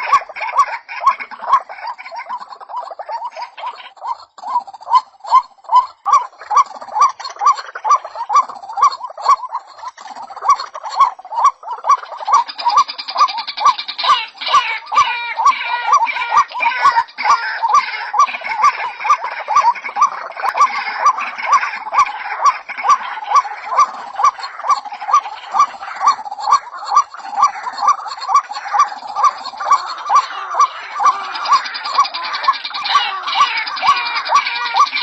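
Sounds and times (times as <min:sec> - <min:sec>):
higher bird chatter: 0:00.0 - 0:35.0
waterhen repeated call notes: 0:00.0 - 0:35.0.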